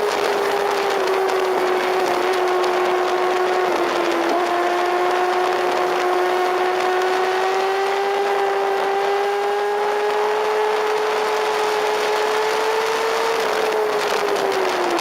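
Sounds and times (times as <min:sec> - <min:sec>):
motorcycle engine at high revs: 0:00.0 - 0:15.0
wind noise: 0:00.0 - 0:15.0.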